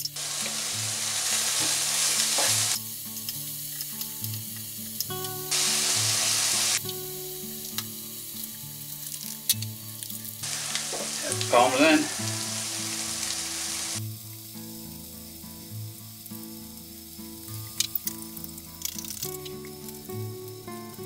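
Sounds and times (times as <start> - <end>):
ham sizzling in a pan: 0.0 - 21.0.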